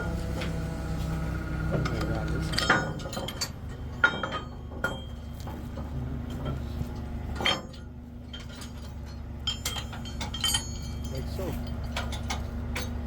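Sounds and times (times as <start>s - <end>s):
steady low hum: 0.0s - 13.0s
heavy steel parts clanking: 1.6s - 13.0s.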